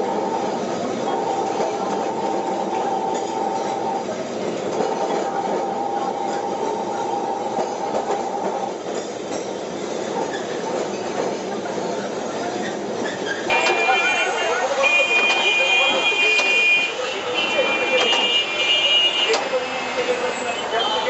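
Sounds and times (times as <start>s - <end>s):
tram rumbling on rails: 0.0s - 21.0s.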